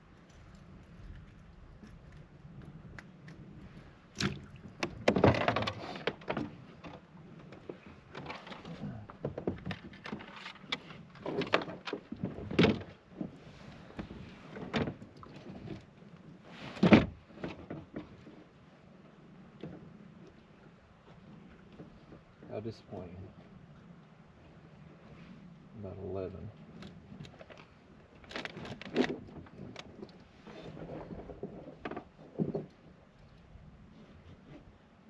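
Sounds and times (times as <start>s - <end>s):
knocks and scrapes in a kayak: 0.4s - 23.7s, 24.4s - 35.0s.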